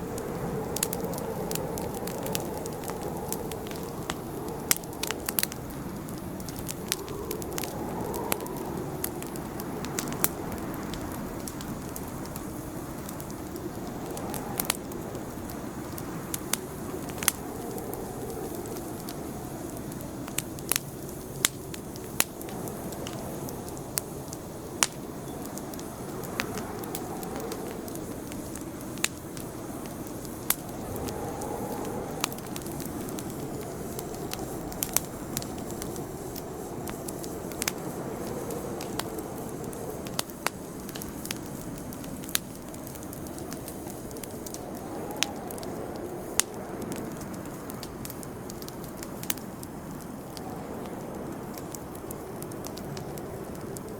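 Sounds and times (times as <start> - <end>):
campfire crackling and popping: 0.0 - 53.9
low rush of flames: 0.0 - 53.9.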